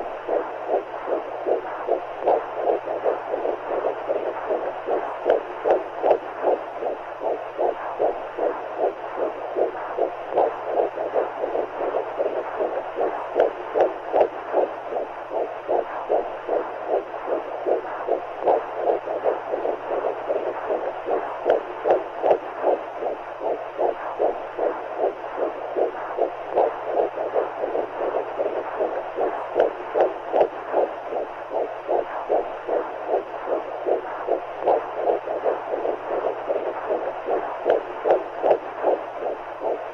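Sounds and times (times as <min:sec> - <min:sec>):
low hum: 0:00.0 - 0:39.9
steady rushing noise: 0:00.0 - 0:39.9
whooshing heartbeat: 0:00.0 - 0:39.9.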